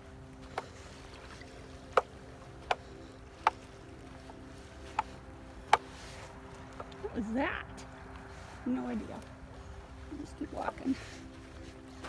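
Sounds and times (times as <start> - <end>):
footsteps crunching on gravelly sand: 0.0 - 12.0.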